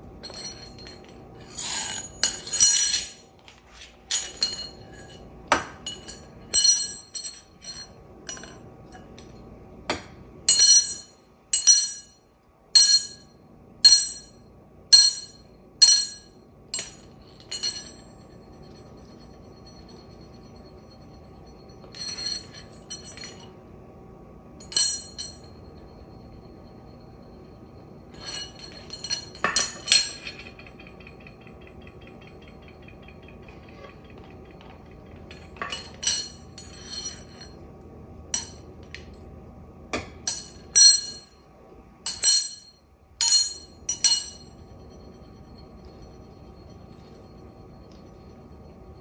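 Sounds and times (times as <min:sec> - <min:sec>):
metal spoon clattering on tile floor: 0:00.1 - 0:12.2, 0:12.8 - 0:23.6, 0:24.6 - 0:26.3, 0:28.1 - 0:37.6, 0:38.4 - 0:39.3, 0:40.0 - 0:41.4, 0:42.1 - 0:48.7.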